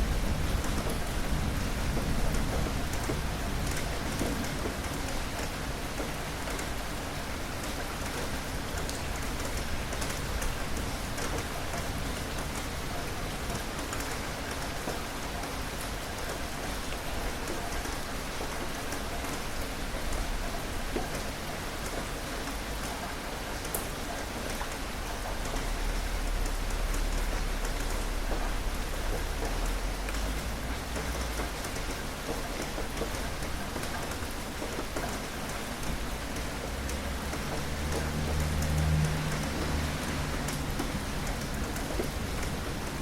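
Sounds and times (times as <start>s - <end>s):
raindrops ticking on a surface: 0.0s - 43.0s
steady rain hiss: 0.0s - 43.0s.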